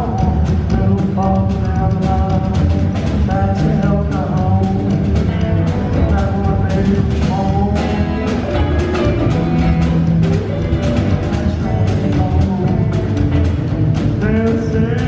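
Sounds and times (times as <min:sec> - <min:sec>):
drum kit beat: 0:00.0 - 0:15.0
bending lead melody: 0:01.8 - 0:15.0.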